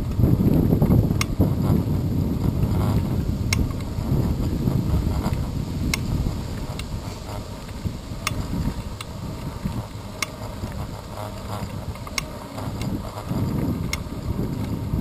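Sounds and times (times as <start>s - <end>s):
bicycle road rumble: 0.0s - 15.0s
wind buffeting microphone: 0.0s - 15.0s.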